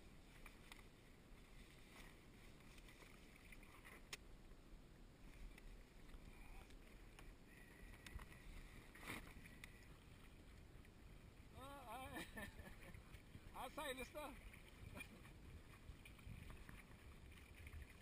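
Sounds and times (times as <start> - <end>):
faint low wind: 0.0 - 18.0
water sounds: 0.0 - 18.0.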